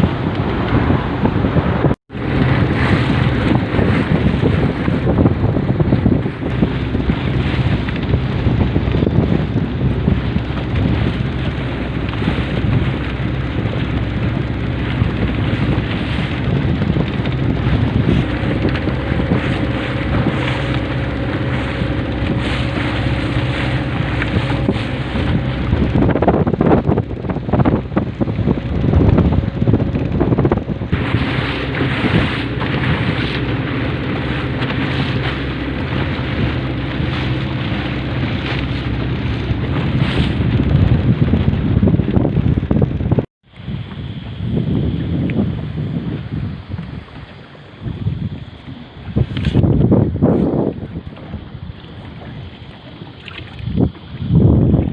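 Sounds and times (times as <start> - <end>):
motorboat engine running: 0.0 - 54.9
water rushing along hull: 0.0 - 54.9
wind buffeting microphone: 0.0 - 54.9.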